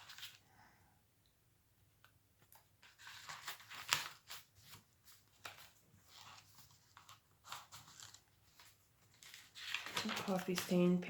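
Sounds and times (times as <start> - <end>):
paper rustling: 0.0 - 0.4, 2.0 - 11.0.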